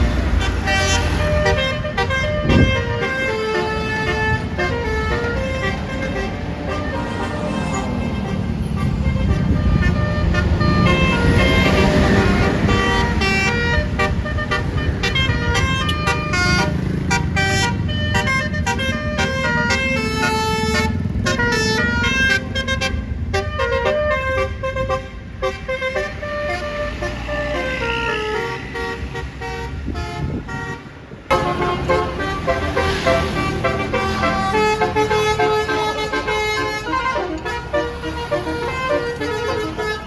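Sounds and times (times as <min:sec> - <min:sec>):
bus engine rumble: 0:00.0 - 0:40.0
musical air horn playing tune: 0:00.0 - 0:40.0.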